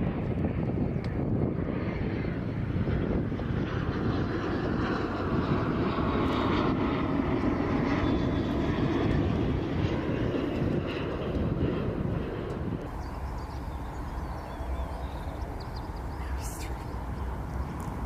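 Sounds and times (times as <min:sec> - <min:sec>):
airliner rushing noise: 0:00.1 - 0:18.0.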